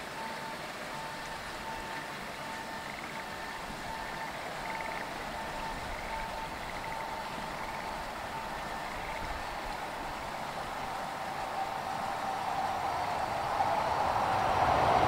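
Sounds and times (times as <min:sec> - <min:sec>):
frogs trilling: 0:00.0 - 0:14.8
freight train rumble: 0:00.0 - 0:15.0.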